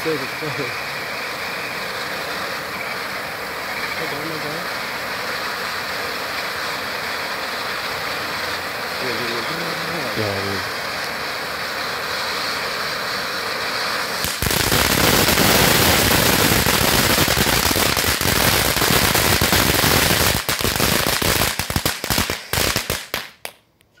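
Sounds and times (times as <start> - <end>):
firework fountain hissing: 0.0 - 23.6
firework crackling and popping: 0.0 - 24.0.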